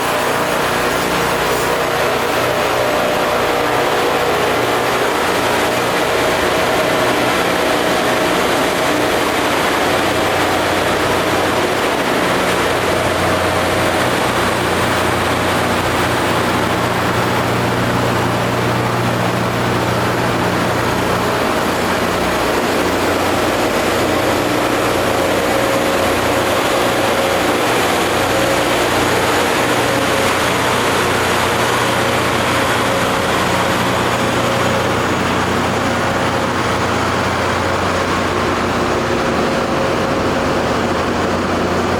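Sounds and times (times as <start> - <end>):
engine hum: 0.0 - 41.9
rail grinding noise: 0.0 - 41.9.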